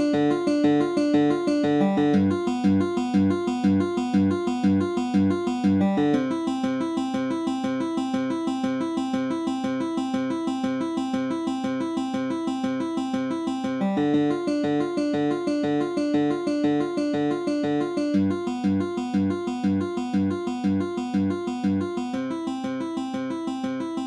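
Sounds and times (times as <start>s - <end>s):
instrumental background music: 0.0s - 24.0s.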